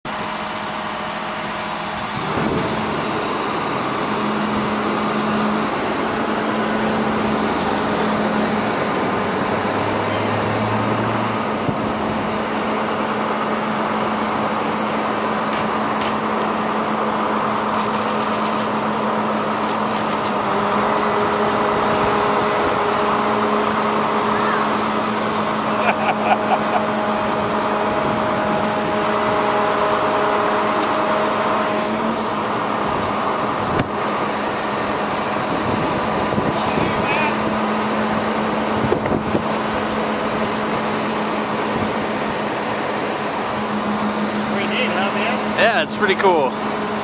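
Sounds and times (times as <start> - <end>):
heavy vehicle engine running: 0.0 - 47.0.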